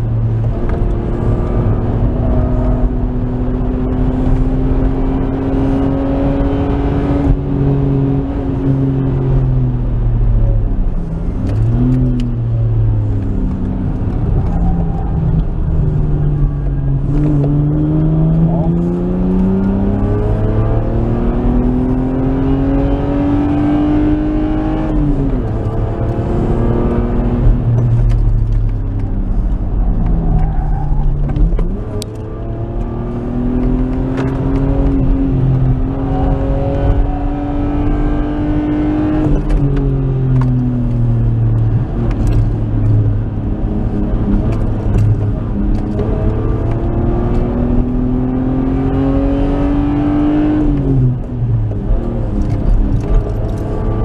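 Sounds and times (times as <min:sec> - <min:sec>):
car engine revving under load: 0:00.0 - 0:54.0
road and wind rumble: 0:00.0 - 0:54.0.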